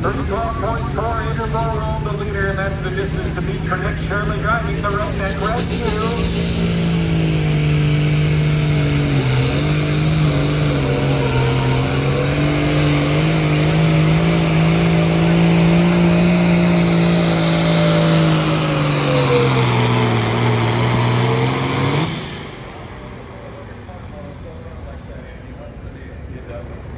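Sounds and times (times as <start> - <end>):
engine running flat out under load: 0.0 - 26.9.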